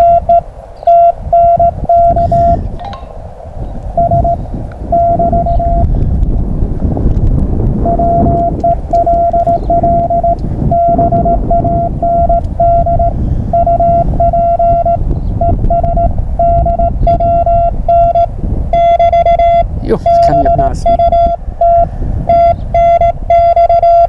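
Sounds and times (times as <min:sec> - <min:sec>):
morse code tone: 0:00.0 - 0:03.0, 0:04.0 - 0:05.9, 0:07.8 - 0:24.0
low rumbling noise: 0:00.0 - 0:24.0.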